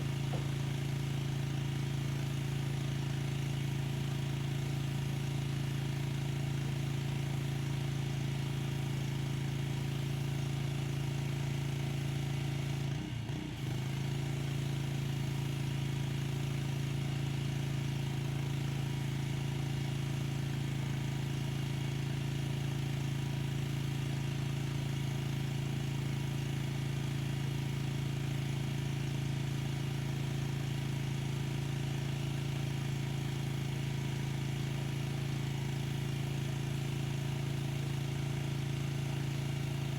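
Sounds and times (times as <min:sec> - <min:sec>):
pressure washer running: 0:00.0 - 0:12.9, 0:13.6 - 0:39.9.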